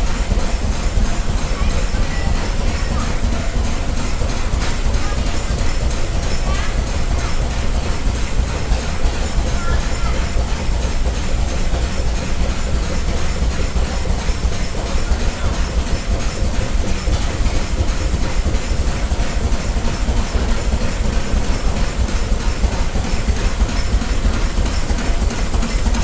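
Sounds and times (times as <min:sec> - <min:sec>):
stationary engine chugging: 0:00.0 - 0:26.0.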